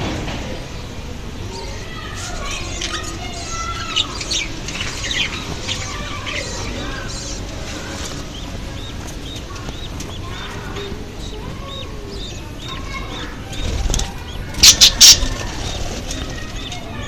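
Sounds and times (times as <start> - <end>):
small birds calling: 0.6 - 17.0.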